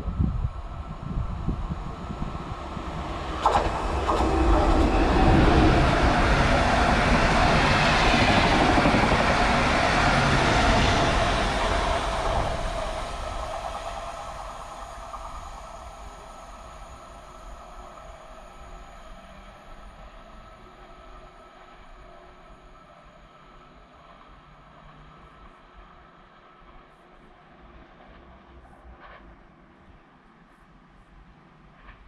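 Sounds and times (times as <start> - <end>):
electric train passing: 0.0 - 31.1.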